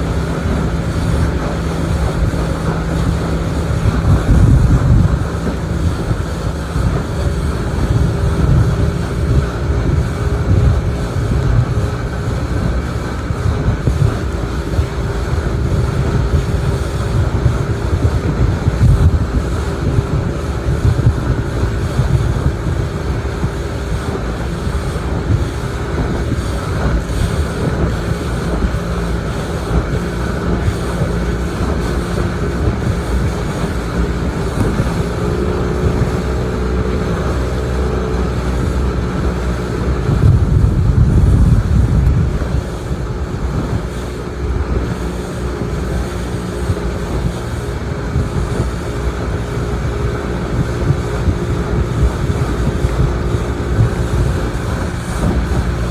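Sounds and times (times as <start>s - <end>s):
motorboat engine running: 0.0s - 55.9s
wind buffeting microphone: 0.0s - 55.9s.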